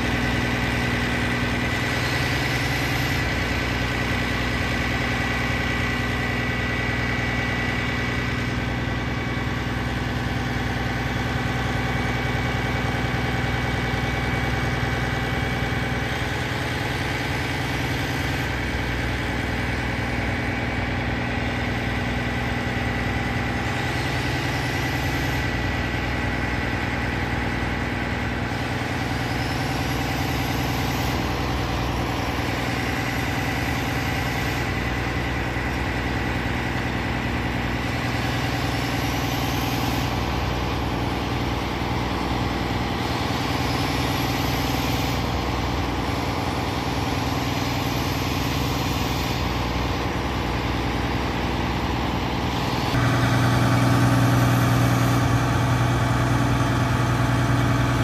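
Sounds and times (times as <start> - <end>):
diesel engine running: 0.0 - 58.0
steady high whine: 0.0 - 58.0.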